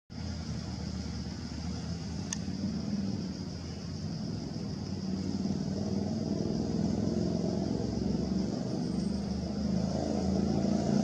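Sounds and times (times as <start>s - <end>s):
low engine hum: 0.1s - 11.0s.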